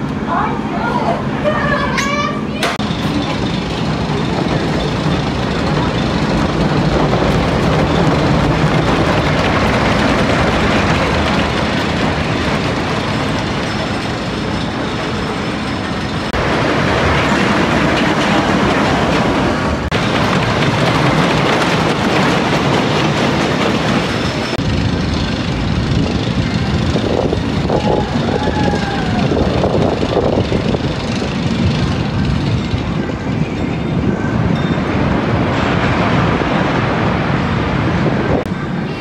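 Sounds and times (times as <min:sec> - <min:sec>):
roller coaster wheels rumbling: 0:00.0 - 0:39.0.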